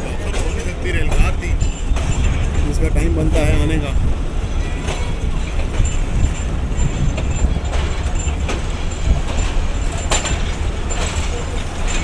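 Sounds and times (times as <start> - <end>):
train rumbling on track: 0.0 - 12.0
train wheels clacking: 0.0 - 12.0.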